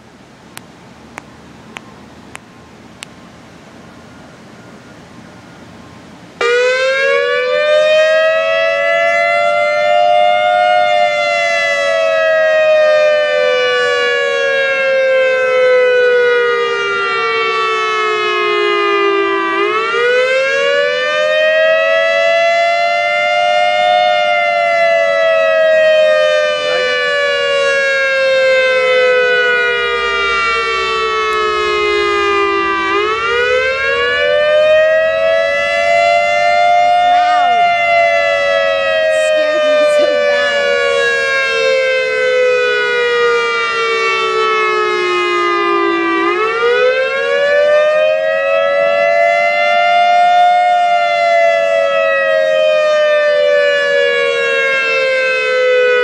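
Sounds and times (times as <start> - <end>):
warning siren wailing: 3.8 - 56.0.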